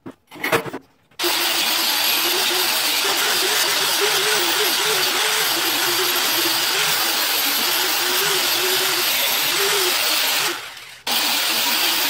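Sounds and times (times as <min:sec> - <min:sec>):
angle grinder whirring on metal: 0:01.2 - 0:12.0.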